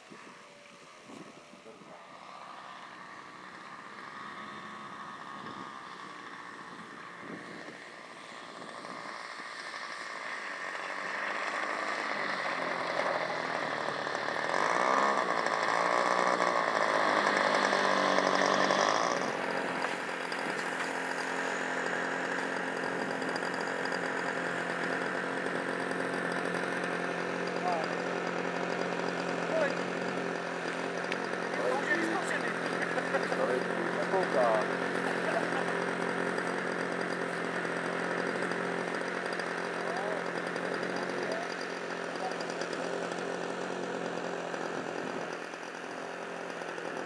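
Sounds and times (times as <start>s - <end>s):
model aeroplane engine running: 0.0s - 47.0s.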